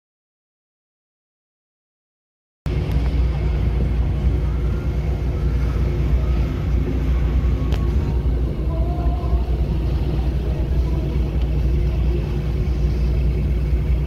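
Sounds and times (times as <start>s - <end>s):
ferry engine rumble: 2.7s - 14.0s
wind and water hiss: 2.7s - 14.0s.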